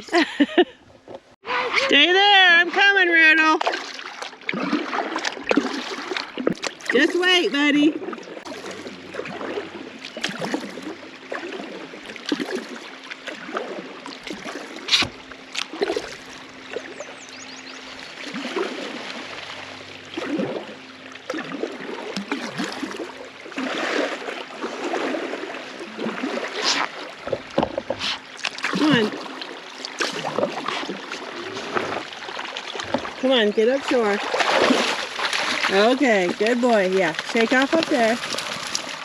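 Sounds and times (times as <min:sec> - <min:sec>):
kayak paddle splashing water: 0:01.4 - 0:39.0.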